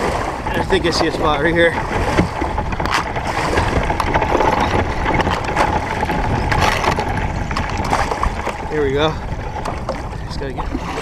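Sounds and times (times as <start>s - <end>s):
splashing water: 0.0s - 11.0s
ice knocking against kayak hull: 0.5s - 11.0s.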